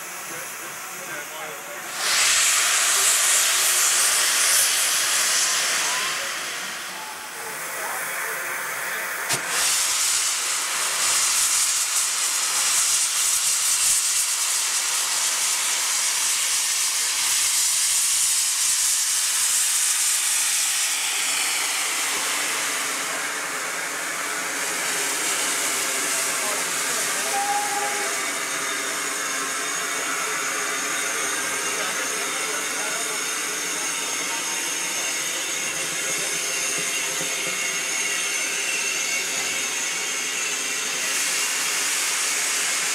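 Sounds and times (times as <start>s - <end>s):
steam locomotive venting steam: 0.0s - 42.9s.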